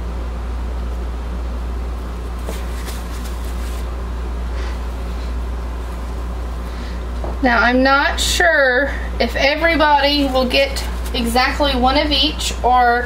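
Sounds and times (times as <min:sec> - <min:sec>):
steady low motor hum: 0:00.0 - 0:13.0.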